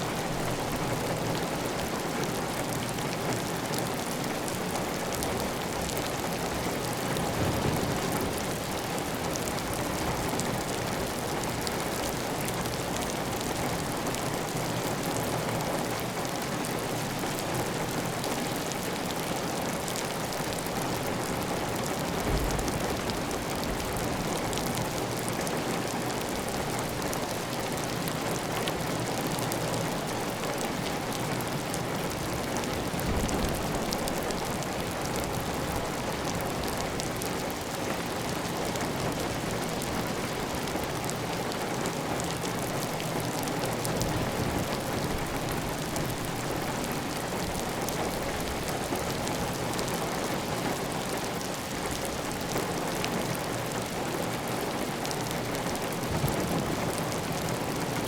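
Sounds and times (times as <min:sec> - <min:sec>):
heavy rain on a tile roof: 0:00.0 - 0:58.0.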